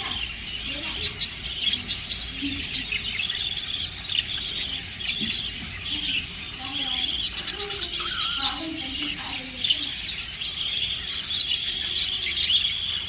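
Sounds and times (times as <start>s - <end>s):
budgerigars chirping and chattering: 0.0s - 13.0s.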